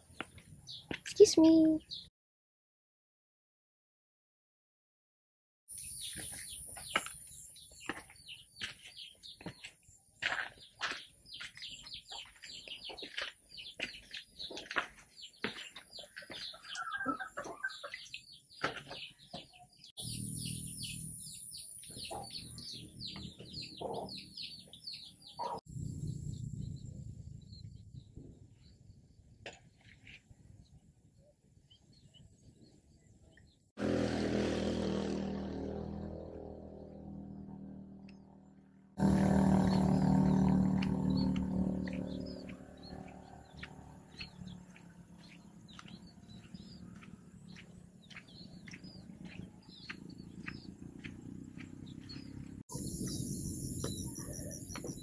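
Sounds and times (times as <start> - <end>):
birds chirping and singing: 0.0 - 2.1, 5.7 - 33.7, 39.0 - 55.0.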